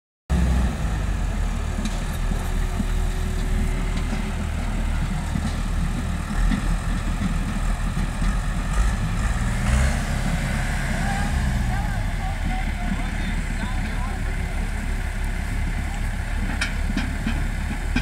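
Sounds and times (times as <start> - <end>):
tractor diesel engines running: 0.3 - 18.0.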